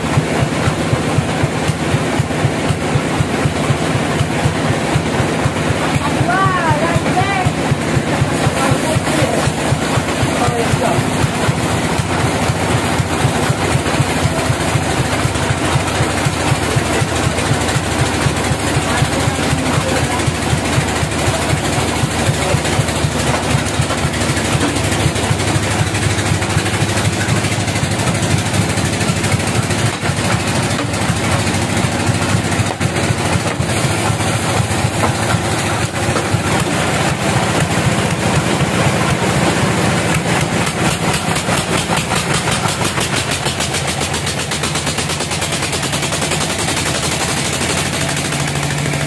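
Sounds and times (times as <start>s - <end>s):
stationary engine running: 0.0s - 49.0s.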